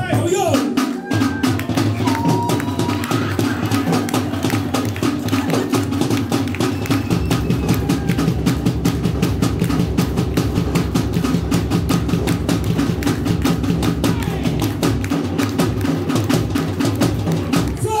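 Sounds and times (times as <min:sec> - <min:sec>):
fast drum strokes: 0:00.0 - 0:18.0
low drum beat: 0:00.0 - 0:18.0.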